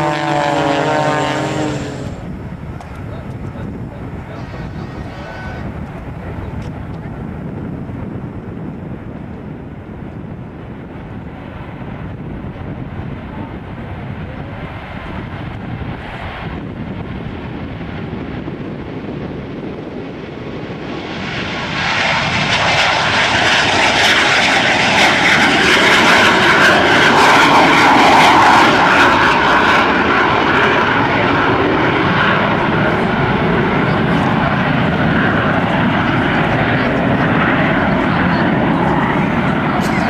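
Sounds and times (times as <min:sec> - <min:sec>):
airplane flying past: 0:00.0 - 0:40.0.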